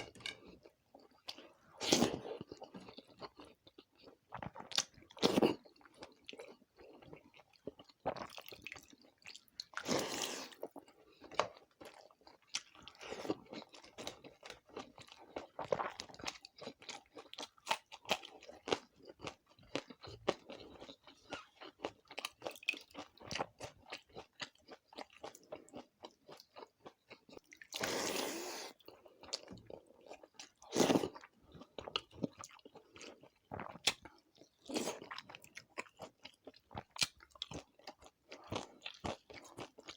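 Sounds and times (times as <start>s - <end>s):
close chewing and crunching: 0.0s - 39.9s.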